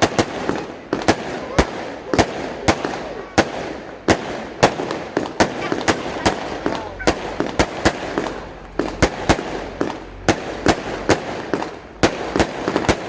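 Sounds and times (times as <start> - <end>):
firework bangs: 0.0 - 13.0
firework hiss: 0.0 - 13.0.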